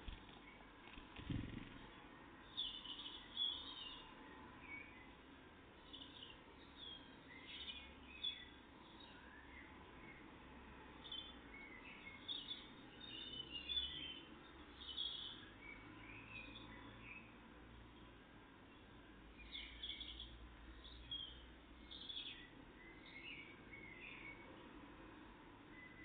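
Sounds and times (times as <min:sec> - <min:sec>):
faint songbirds chirping: 0:00.0 - 0:26.0.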